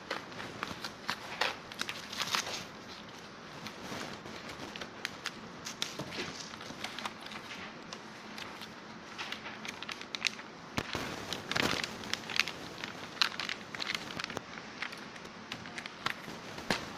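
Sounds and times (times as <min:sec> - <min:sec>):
bubble wrap crinkling: 0:00.0 - 0:16.9.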